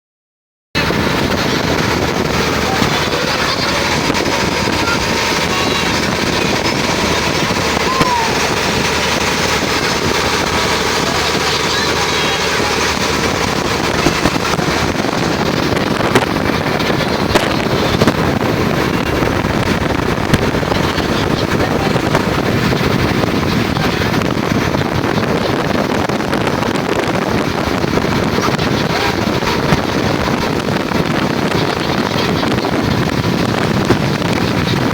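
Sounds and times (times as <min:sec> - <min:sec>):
boat engine running: 0:00.8 - 0:34.9
wind buffeting microphone: 0:00.8 - 0:34.9.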